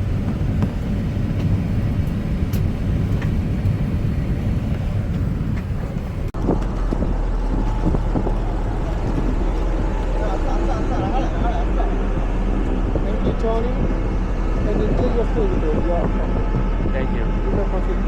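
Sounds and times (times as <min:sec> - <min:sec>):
deep steady hum: 0:00.0 - 0:18.0
engine rumbling: 0:00.0 - 0:18.0.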